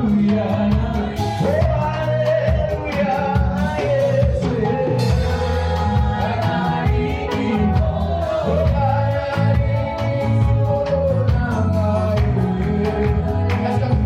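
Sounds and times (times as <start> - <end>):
gospel band with singing: 0.0 - 14.0.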